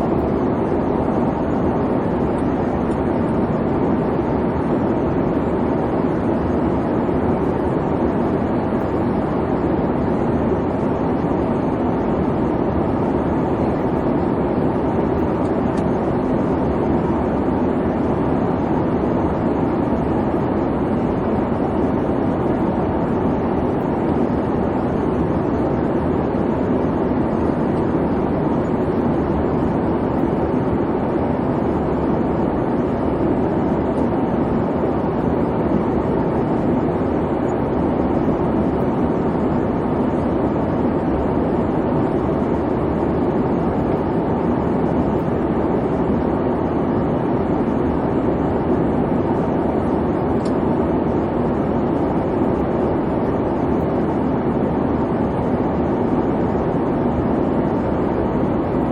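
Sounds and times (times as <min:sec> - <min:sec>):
airliner cabin engine hum: 0:00.0 - 0:58.9.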